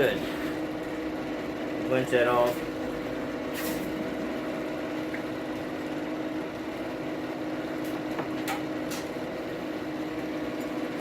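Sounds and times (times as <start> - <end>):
forge humming drone: 0.0 - 11.0.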